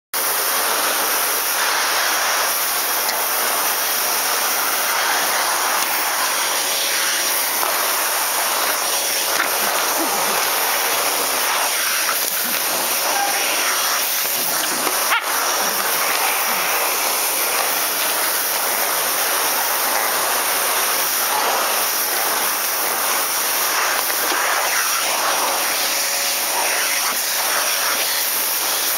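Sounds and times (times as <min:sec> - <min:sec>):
vacuum cleaner running: 0:00.2 - 0:28.9.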